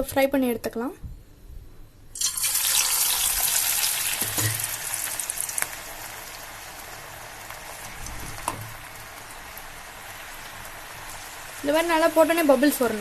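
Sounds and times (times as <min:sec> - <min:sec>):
potatoes sizzling in hot oil: 0:02.2 - 0:13.0.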